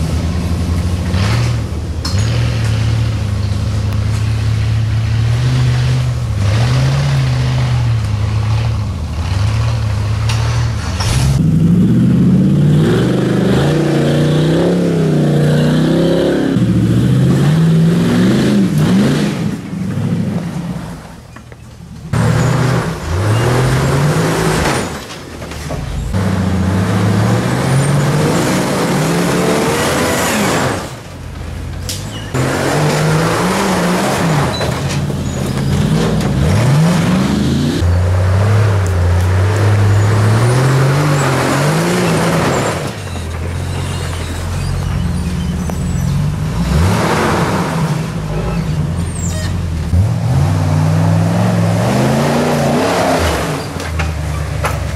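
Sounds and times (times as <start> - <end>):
off-road engines revving: 0.0 - 54.9.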